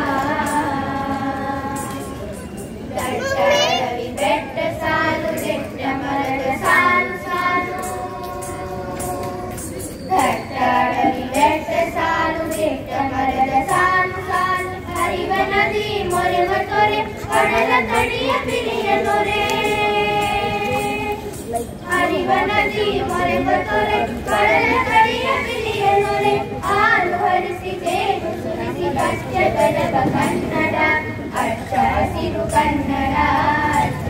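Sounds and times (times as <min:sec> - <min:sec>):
children singing: 0:00.0 - 0:02.3, 0:02.9 - 0:34.0.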